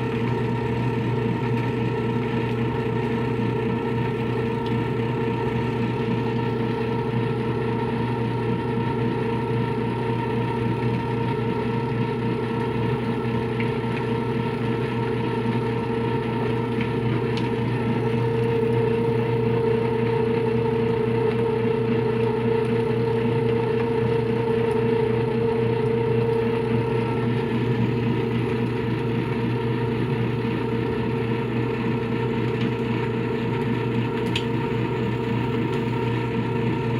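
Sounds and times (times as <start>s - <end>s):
washing machine motor running: 0.0s - 36.9s.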